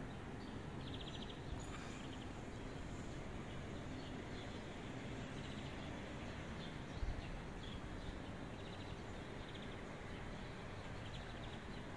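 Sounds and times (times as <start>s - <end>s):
bird chirps and trills: 0.0s - 11.9s
low street rumble: 0.0s - 11.9s.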